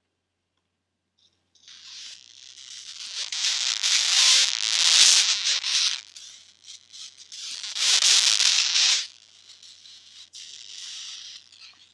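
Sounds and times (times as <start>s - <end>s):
faint hiss: 1.2s - 11.9s
earphone crackling static: 1.6s - 11.9s.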